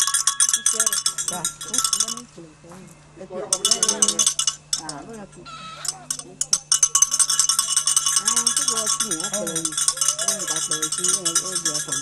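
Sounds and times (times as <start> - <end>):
small metal bell ringing rapidly: 0.0 - 2.4, 3.5 - 12.0
voices singing: 0.0 - 12.0.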